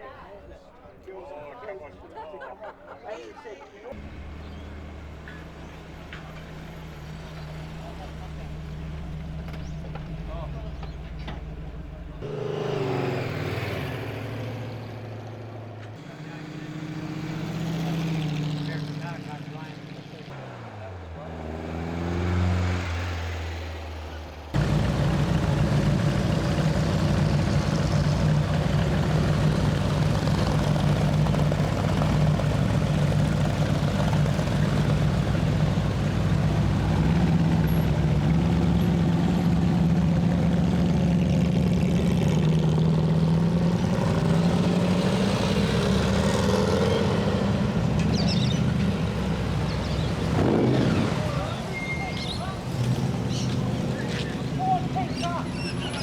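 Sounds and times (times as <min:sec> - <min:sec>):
car engine idling: 0:03.9 - 0:21.5, 0:23.1 - 0:56.0.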